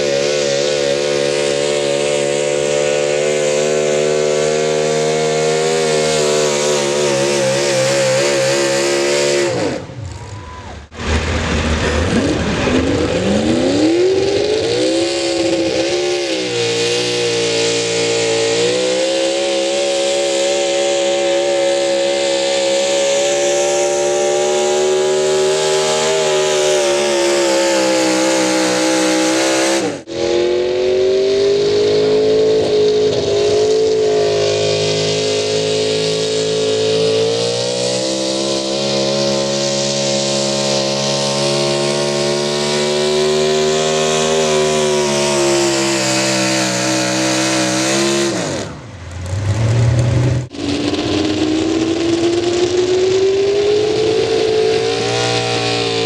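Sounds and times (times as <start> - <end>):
vehicle engine at high revs: 0.0 - 56.0.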